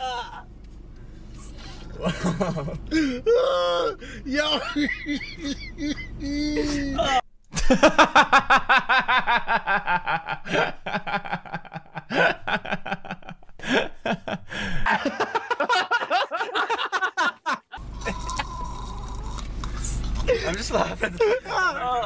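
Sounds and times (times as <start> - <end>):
man laughing hard: 2.0 - 18.6, 19.9 - 22.0.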